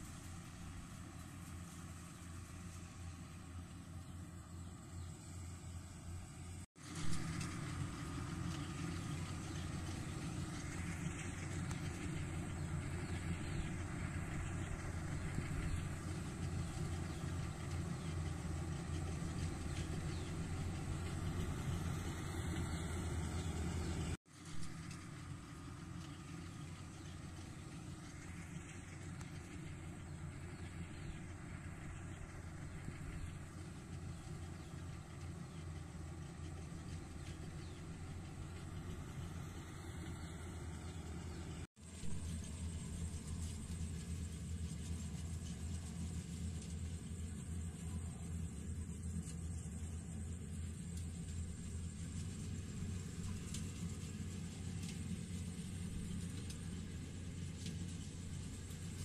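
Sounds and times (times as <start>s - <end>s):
harvester engine drone: 0.0s - 59.0s.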